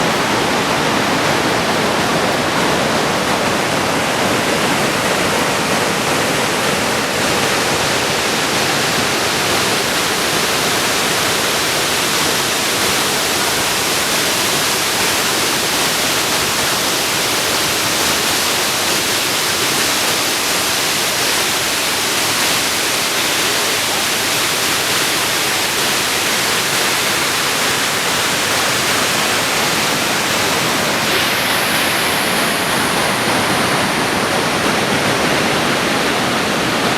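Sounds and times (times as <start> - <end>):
waterfall roaring: 0.0 - 36.9.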